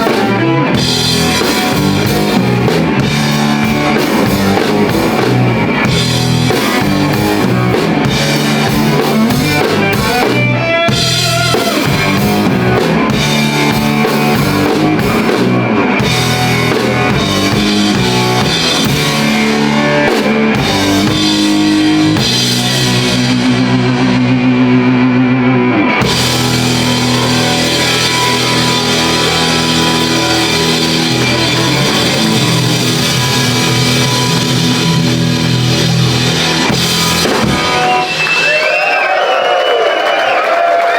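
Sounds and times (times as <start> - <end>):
bass guitar: 0.0 - 38.7
electric guitar: 0.0 - 39.3
drum kit: 0.0 - 40.9.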